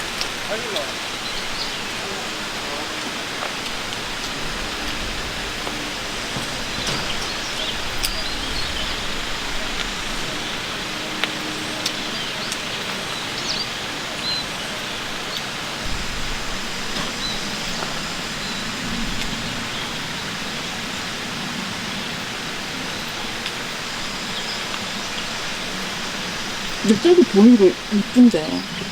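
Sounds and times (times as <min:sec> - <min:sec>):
outdoor rushing hiss: 0:00.0 - 0:28.9.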